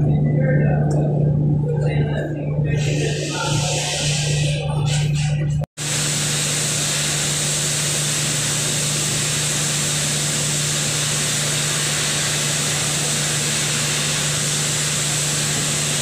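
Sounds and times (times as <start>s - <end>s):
ventilation fan rushing: 0.0s - 16.0s.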